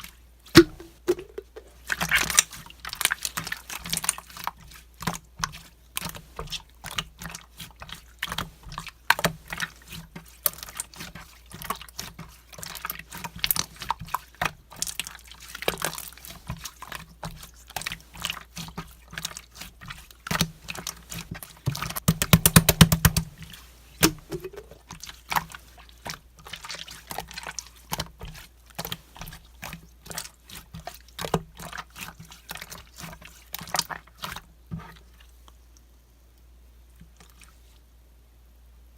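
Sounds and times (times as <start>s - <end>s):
slime squished by hand: 0.4s - 35.3s.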